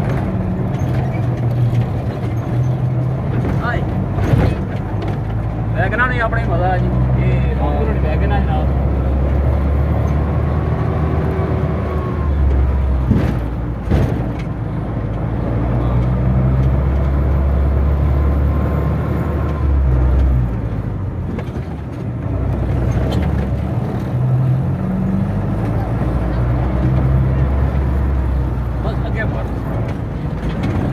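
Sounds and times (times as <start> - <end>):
road noise: 0.0 - 30.9
van engine drone: 0.0 - 30.9.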